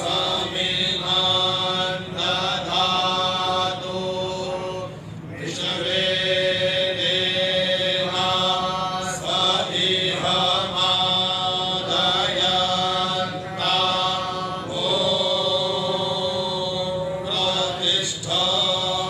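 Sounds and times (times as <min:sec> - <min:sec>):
group of men chanting: 0:00.0 - 0:19.0.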